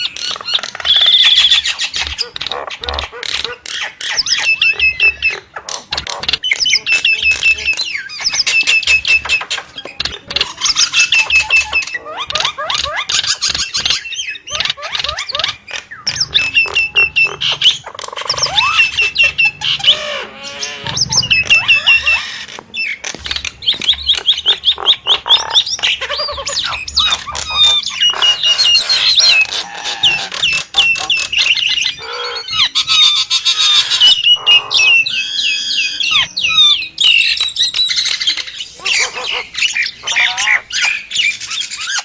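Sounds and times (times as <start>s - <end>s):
starling singing: 0.0s - 42.0s.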